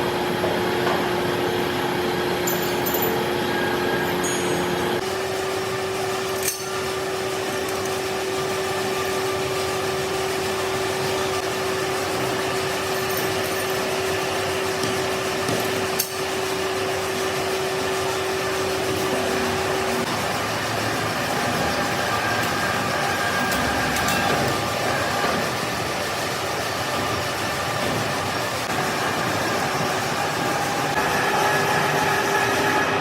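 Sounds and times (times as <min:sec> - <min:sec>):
constant machine tone: 0:00.0 - 0:33.0
metalworking machine running: 0:00.0 - 0:33.0.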